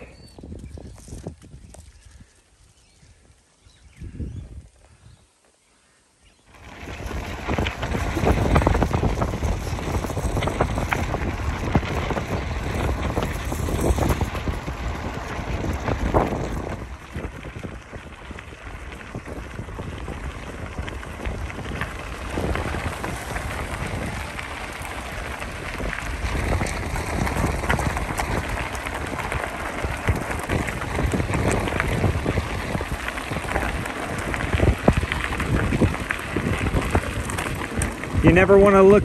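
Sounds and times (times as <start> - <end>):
wind rumbling on microphone: 0.0 - 5.4, 6.2 - 39.0
bicycle tyres on gravel: 0.0 - 39.0.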